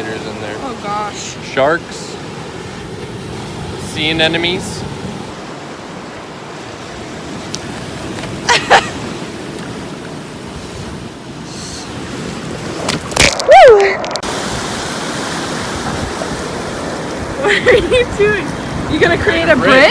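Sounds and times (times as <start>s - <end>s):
ocean surf washing: 0.0s - 19.9s.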